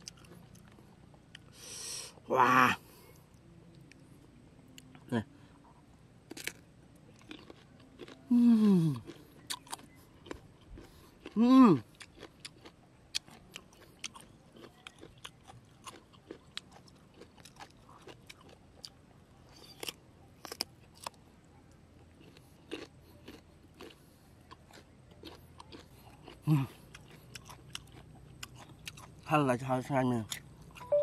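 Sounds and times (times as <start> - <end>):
crunching and chewing: 0.0 - 1.6, 2.8 - 30.9.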